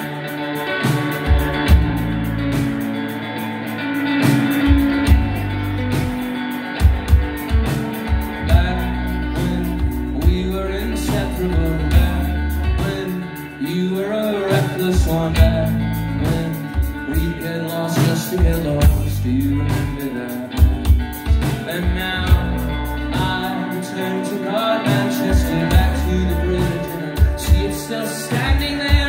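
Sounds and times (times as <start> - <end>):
bass guitar: 0.0 - 29.0
drum kit: 0.0 - 29.0
electric guitars: 0.0 - 29.0.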